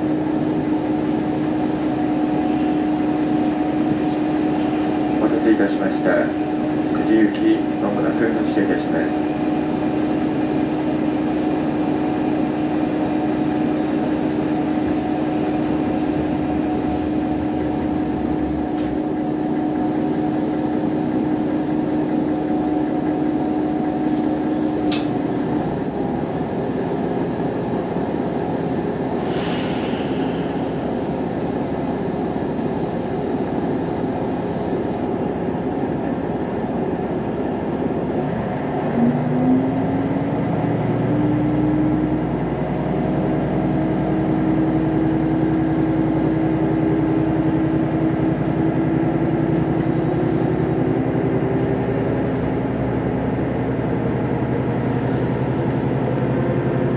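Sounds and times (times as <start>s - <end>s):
diesel railcar engine running: 0.0s - 56.9s.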